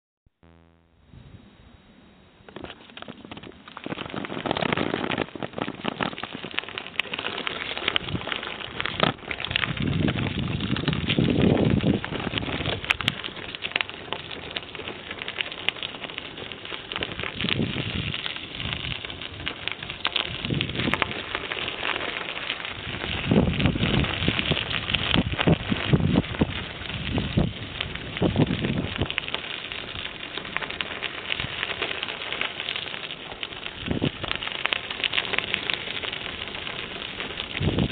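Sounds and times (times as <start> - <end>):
bicycle tyres crackling over gravel: 2.4 - 37.9
bicycle rattling: 2.6 - 37.9.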